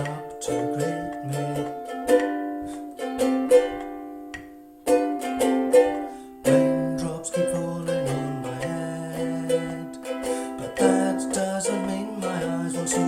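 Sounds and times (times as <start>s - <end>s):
ukulele strumming chords: 0.0s - 13.0s.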